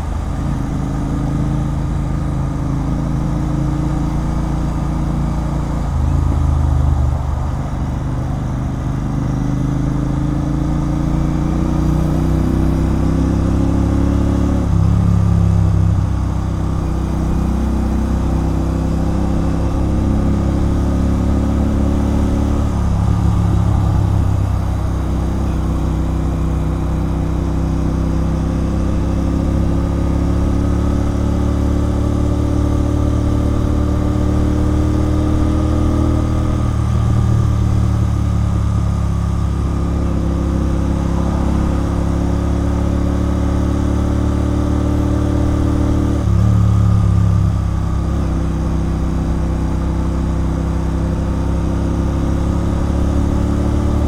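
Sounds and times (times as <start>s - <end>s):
motorcycle engine revving: 8.7s - 54.0s.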